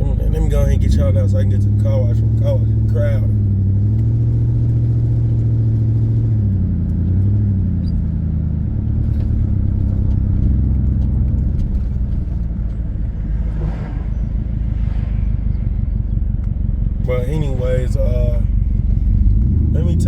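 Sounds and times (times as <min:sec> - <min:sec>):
car engine drone: 0:00.0 - 0:20.0
road rumble: 0:00.0 - 0:20.0.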